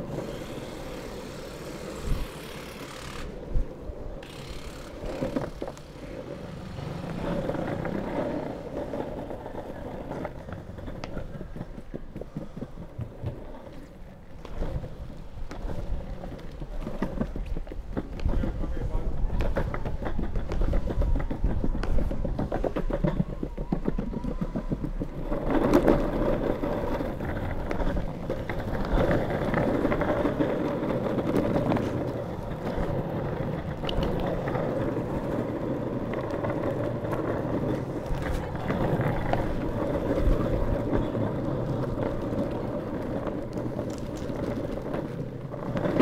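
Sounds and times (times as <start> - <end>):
longboard wheels rolling: 0.0 - 46.0.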